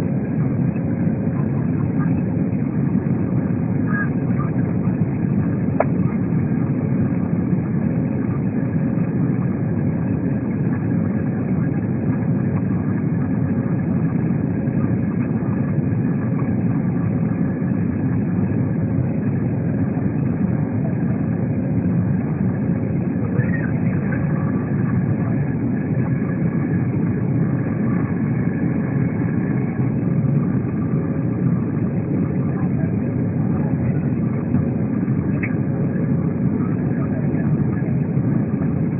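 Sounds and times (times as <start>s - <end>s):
aircraft engine rumble: 0.0s - 38.9s.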